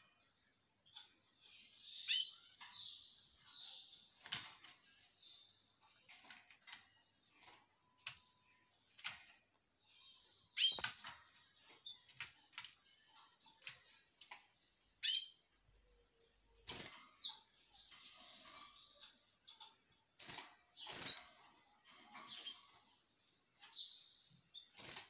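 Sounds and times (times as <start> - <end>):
canaries chirping: 0.0 - 25.0.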